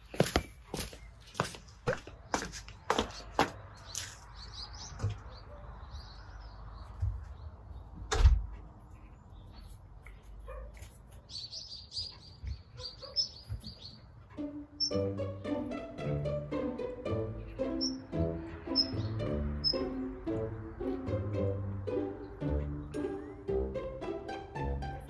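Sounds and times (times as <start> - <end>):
small birds twittering: 0.0 - 15.7, 17.3 - 21.3, 22.0 - 24.4.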